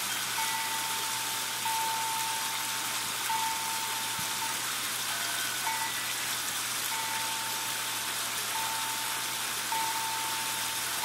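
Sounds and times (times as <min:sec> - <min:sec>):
thin high tone: 0:00.0 - 0:11.0
water splashing into pond: 0:00.0 - 0:11.0.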